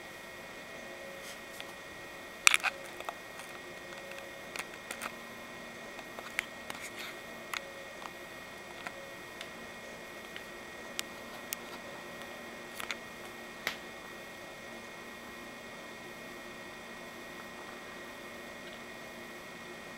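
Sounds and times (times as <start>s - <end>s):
faint whine: 0.0s - 19.9s.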